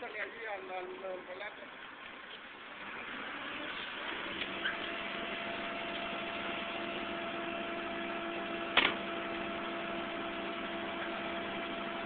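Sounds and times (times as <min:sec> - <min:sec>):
tow truck engine humming: 0:00.1 - 0:12.0.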